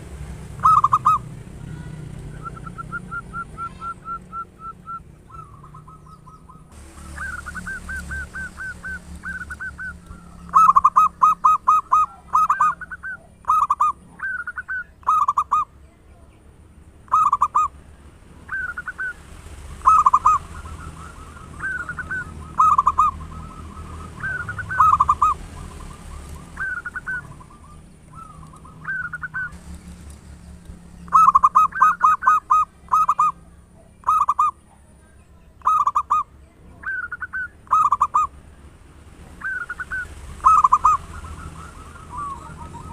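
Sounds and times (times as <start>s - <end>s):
doves cooing: 0.0s - 16.0s, 17.0s - 38.5s, 39.2s - 42.9s.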